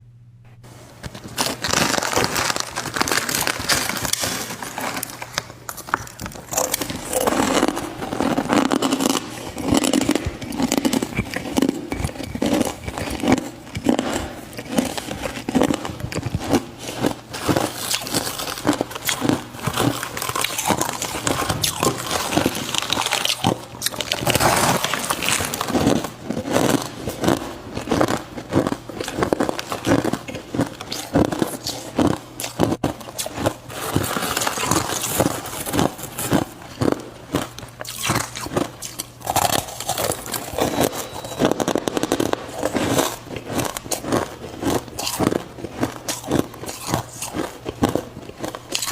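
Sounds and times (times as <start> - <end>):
ice being chewed: 1.0 - 48.9.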